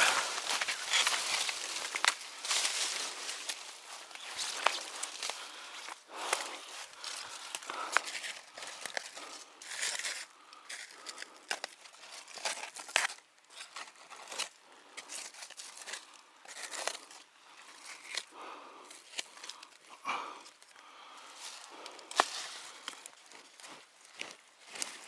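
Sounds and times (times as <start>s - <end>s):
dry leaves and soil rustling: 0.0s - 25.0s.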